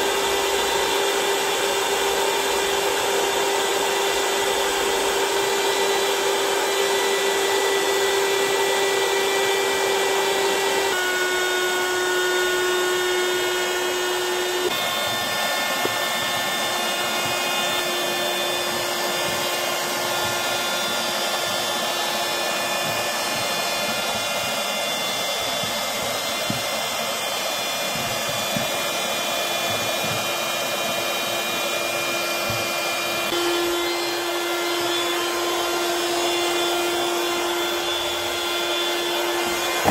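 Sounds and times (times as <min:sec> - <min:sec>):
electric air pump running: 0:00.0 - 0:39.9.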